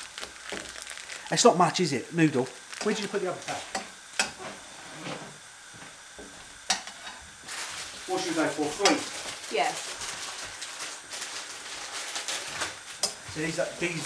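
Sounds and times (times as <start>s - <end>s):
beef sizzling in a hot pan: 0.0s - 14.0s.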